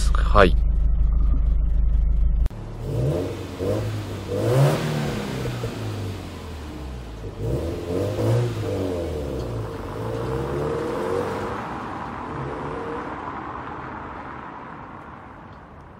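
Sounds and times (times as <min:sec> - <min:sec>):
car engine accelerating: 0:00.0 - 0:15.7.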